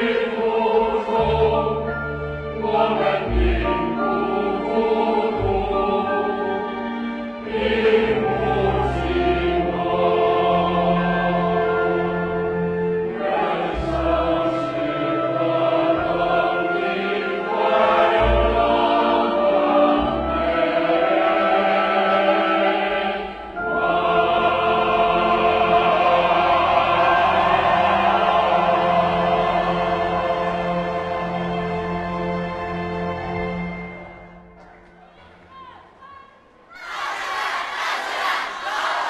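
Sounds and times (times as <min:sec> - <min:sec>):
choir singing: 0:00.0 - 0:34.6, 0:36.7 - 0:39.0.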